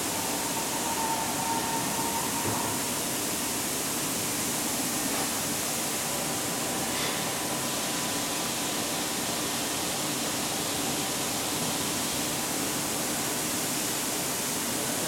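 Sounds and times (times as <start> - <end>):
steady hissing noise: 0.0 - 15.0.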